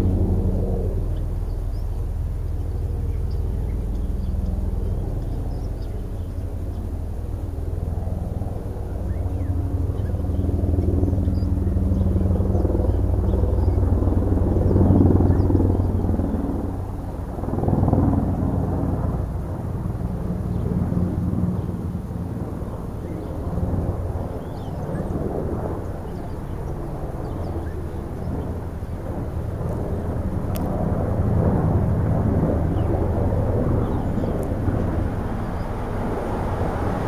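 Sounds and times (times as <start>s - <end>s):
faint engine hum: 0.0s - 37.0s
road traffic rumble: 0.0s - 37.0s.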